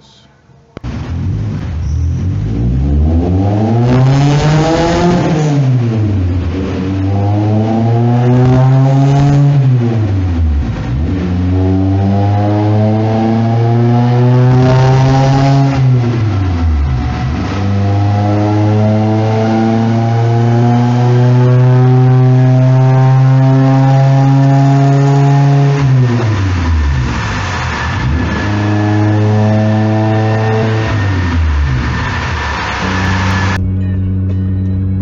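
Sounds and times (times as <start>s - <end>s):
car engine revving high: 0.8s - 33.6s.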